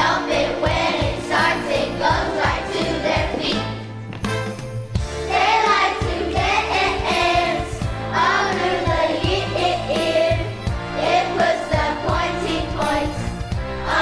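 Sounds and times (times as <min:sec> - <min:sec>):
choir singing: 0:00.0 - 0:03.6, 0:05.3 - 0:13.2
instrumental accompaniment with beat: 0:00.0 - 0:14.0.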